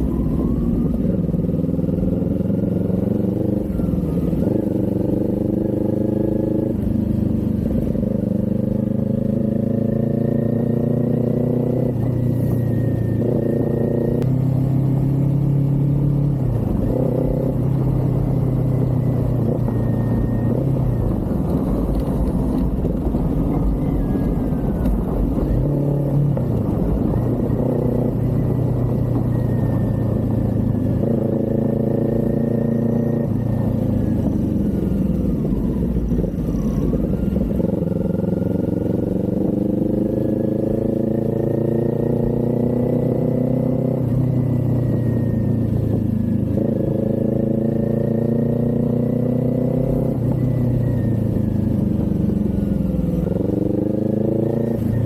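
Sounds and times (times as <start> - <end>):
motorcycle engine under way: 0.0 - 55.0.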